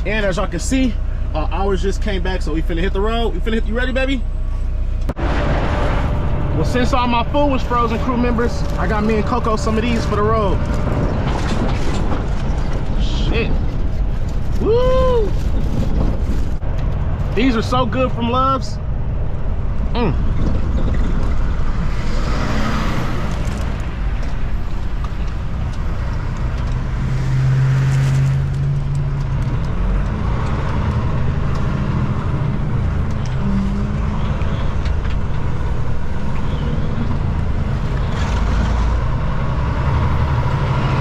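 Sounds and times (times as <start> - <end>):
diesel truck engine running: 0.0 - 41.0
road noise: 0.0 - 41.0.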